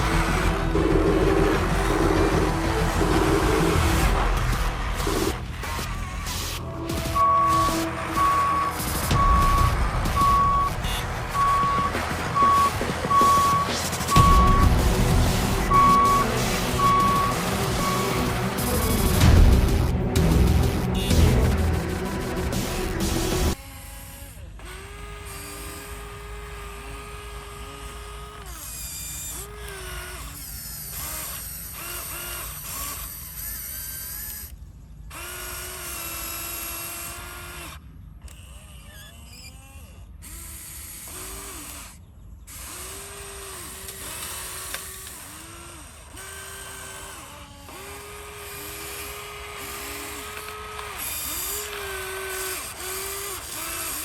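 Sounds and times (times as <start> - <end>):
small electric motors whining: 0.0 - 54.0.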